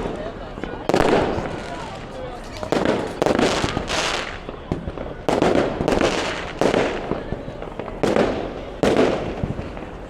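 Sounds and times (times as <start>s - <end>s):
fireworks bangs: 0.0s - 10.0s
fireworks crackle and rumble: 0.0s - 10.0s.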